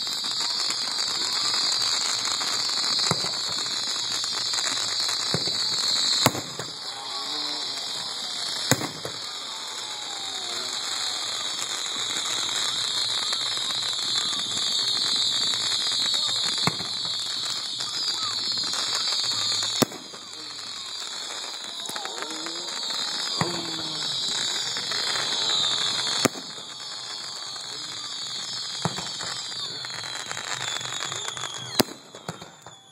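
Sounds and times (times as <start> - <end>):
fireworks crackling: 0.0 - 32.9
fireworks sparks hissing: 0.0 - 32.9
fireworks sharp pops: 2.3 - 7.0, 7.7 - 10.2, 11.1 - 32.8.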